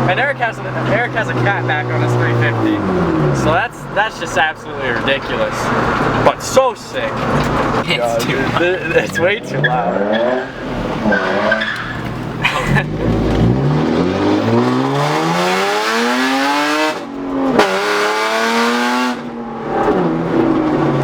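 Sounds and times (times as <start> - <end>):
loud car engine accelerating: 0.0 - 21.0.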